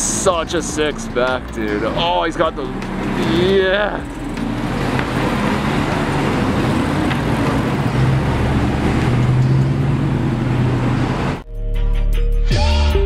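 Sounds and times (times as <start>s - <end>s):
sports car engine accelerating: 0.0s - 11.4s
street noise: 0.0s - 11.5s
music: 0.0s - 13.0s.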